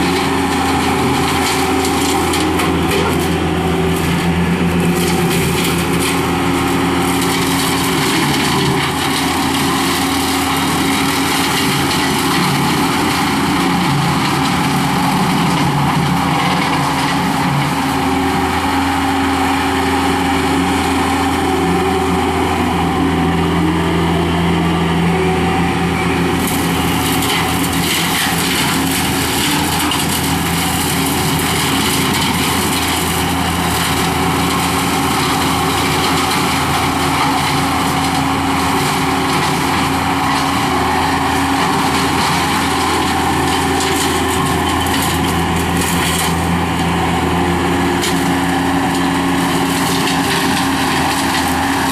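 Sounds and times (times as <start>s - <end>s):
loader engine running under load: 0.0s - 51.9s.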